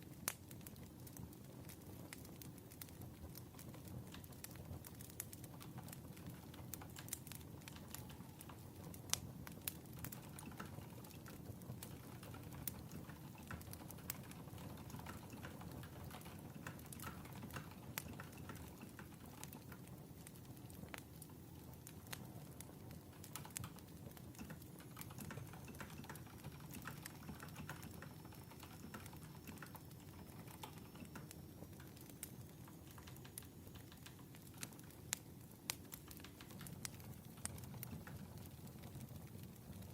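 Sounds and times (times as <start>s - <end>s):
faint wood fire crackling: 0.0s - 39.9s.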